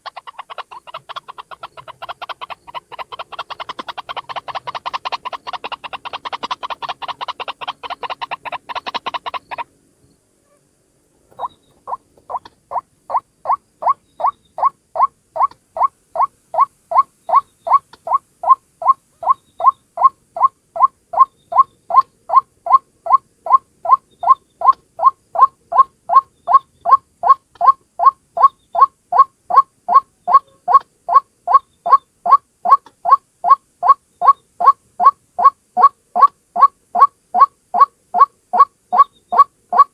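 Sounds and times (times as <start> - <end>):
waterhen calling: 0.0 - 9.7, 11.3 - 39.9.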